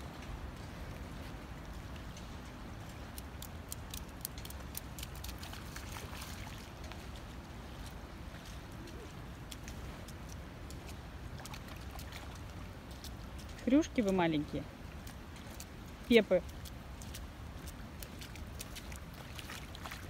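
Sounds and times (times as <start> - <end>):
feet splashing in puddle: 0.2 - 20.0.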